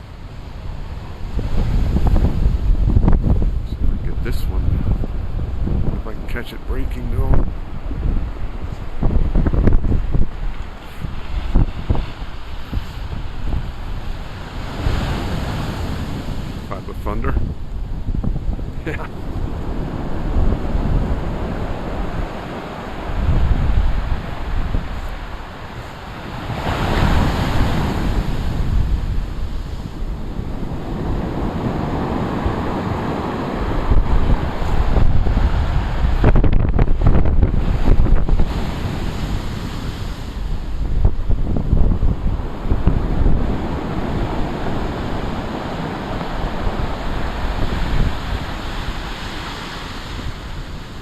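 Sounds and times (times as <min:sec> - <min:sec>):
waves crashing on shore: 0:00.0 - 0:51.0
wind buffeting microphone: 0:00.0 - 0:51.0.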